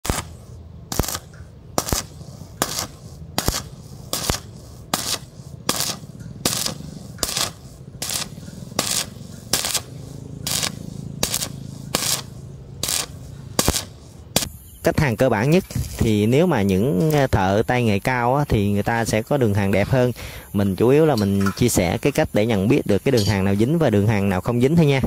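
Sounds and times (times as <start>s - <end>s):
steady low hum: 0.0s - 25.0s
welding arc crackling: 0.0s - 25.0s.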